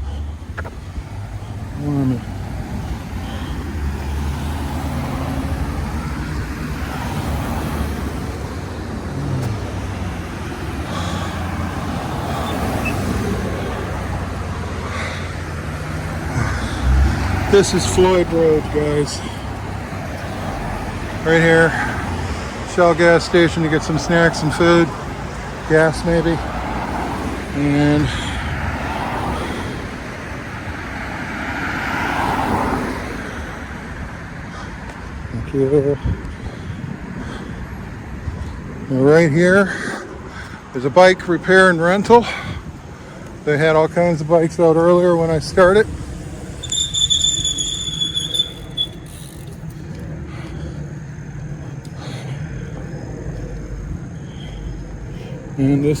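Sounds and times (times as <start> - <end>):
low engine rumble: 0.0 - 56.0
vehicles passing: 0.0 - 56.0.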